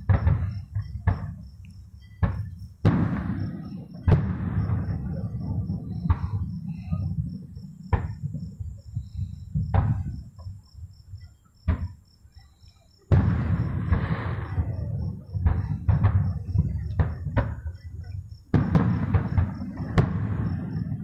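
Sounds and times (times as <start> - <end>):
crickets chirping: 0.0 - 21.0
fireworks bursting: 0.0 - 21.0.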